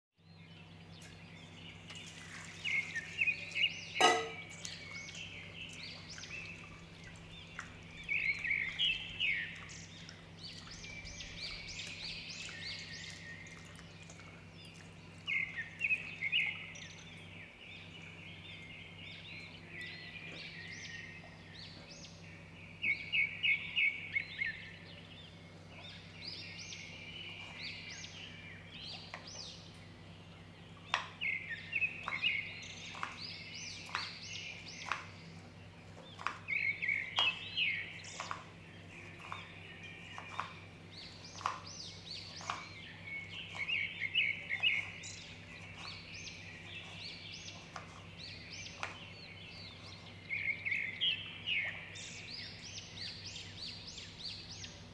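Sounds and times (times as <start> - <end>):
birds chirping: 0.2 - 54.9
steady low hum: 0.2 - 54.9.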